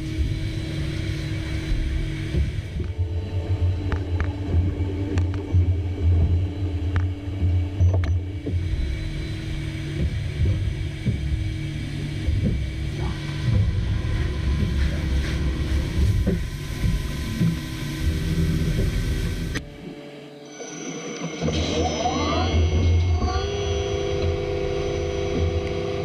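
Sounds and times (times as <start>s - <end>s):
machine low rumble: 0.0s - 20.0s, 21.4s - 26.0s
faint whining tones: 0.0s - 26.0s.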